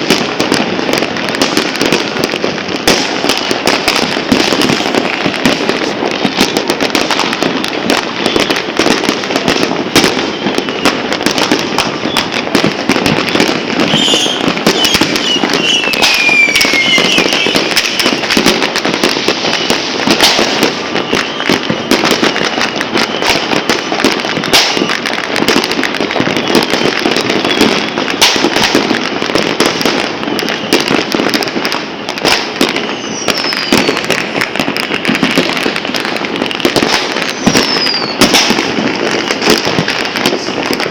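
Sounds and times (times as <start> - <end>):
falling firework whistle: 0.0 - 40.9
fireworks crackling and banging: 0.0 - 40.9.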